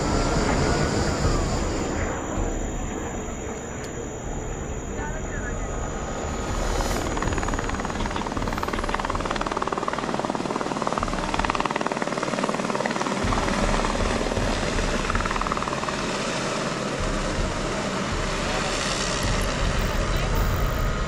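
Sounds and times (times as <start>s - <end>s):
helicopter rotor chop: 0.0s - 21.0s.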